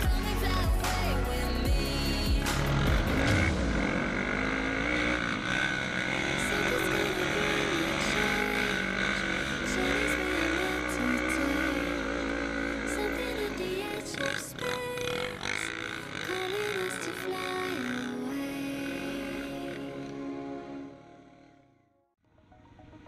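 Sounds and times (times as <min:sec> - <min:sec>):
quad engine revving: 0:00.0 - 0:21.7.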